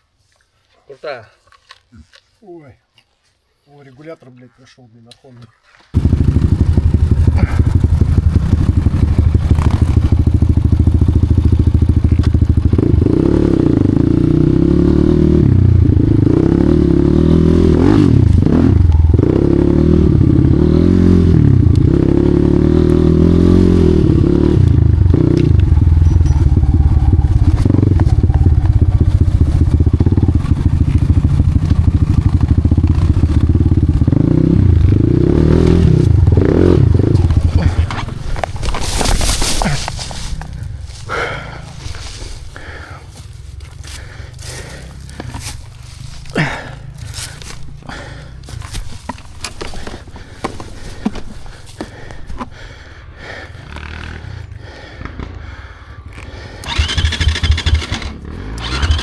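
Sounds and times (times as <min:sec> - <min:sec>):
dirt bike engine revving: 0:05.9 - 0:59.0.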